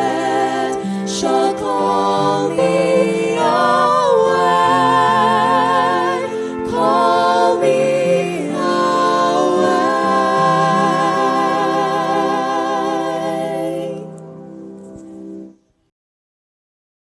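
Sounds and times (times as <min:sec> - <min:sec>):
female voices singing with vibrato: 0:00.0 - 0:14.1
backing music: 0:00.0 - 0:15.6.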